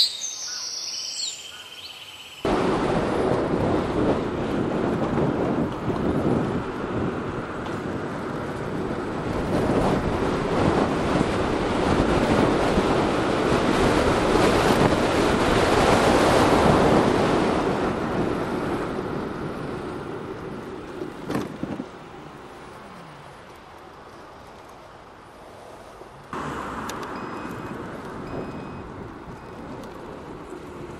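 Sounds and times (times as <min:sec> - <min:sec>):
wind buffeting microphone: 0:02.4 - 0:30.9.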